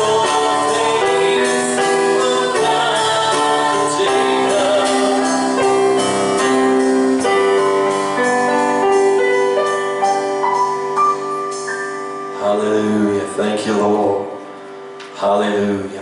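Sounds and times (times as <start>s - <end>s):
keyboard chords: 0.0s - 16.0s.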